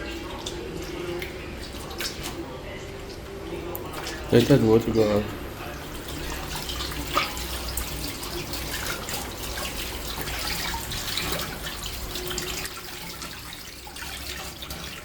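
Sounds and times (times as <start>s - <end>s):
tap water running into a sink: 0.0s - 15.0s.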